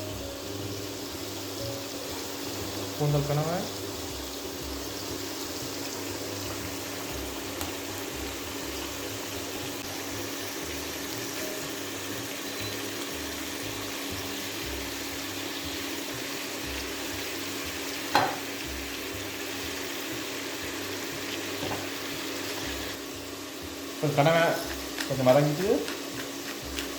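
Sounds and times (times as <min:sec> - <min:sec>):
squid sizzling in oil: 0:00.0 - 0:26.9.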